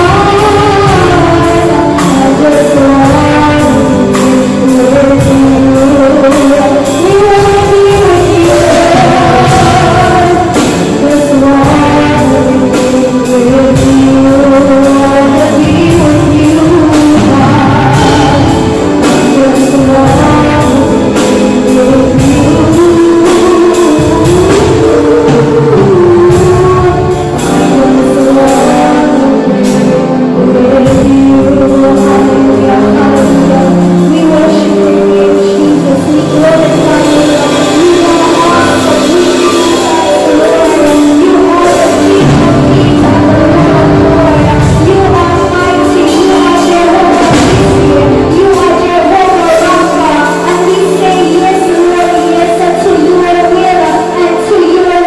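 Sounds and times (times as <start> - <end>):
drum kit: 0.0 - 55.0
electronic keyboard: 0.0 - 55.0
woman singing into a microphone: 0.0 - 55.0.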